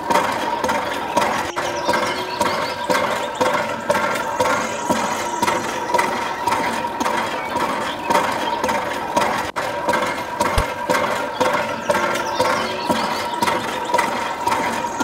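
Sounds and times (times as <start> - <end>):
small motor running: 0.0 - 15.0.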